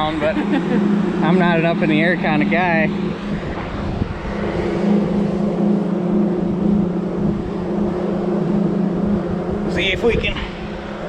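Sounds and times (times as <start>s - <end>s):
machinery hum throbbing: 0.0s - 11.0s
wind on microphone: 0.0s - 11.0s.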